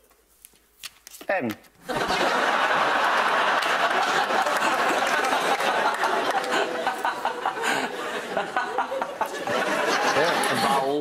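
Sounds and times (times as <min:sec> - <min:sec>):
studio audience laughing: 0:01.9 - 0:11.0.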